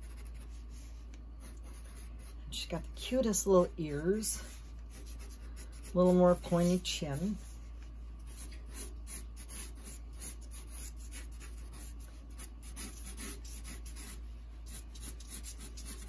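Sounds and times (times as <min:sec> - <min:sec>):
marker scratching on paper: 0:00.0 - 0:02.4, 0:04.5 - 0:07.6, 0:08.3 - 0:16.0.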